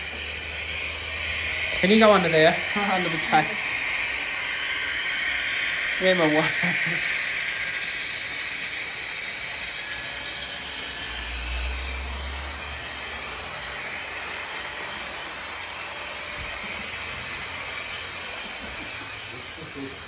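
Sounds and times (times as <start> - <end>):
model train whirring: 0.0 - 20.0.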